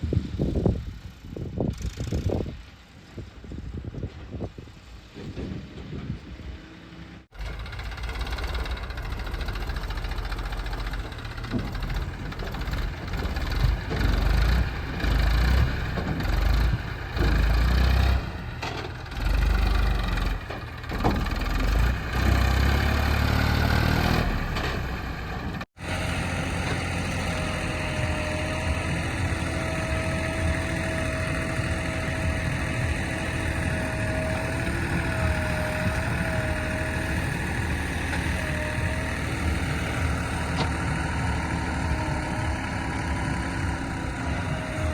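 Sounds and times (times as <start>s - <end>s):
heavy diesel engine revving: 6.9s - 44.9s.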